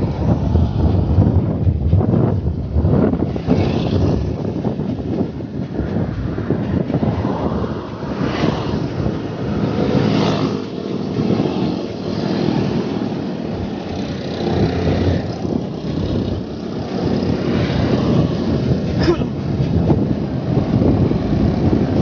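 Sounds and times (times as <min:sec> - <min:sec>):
motor traffic passing: 0:00.0 - 0:22.0
wind rumbling on microphone: 0:00.0 - 0:22.0.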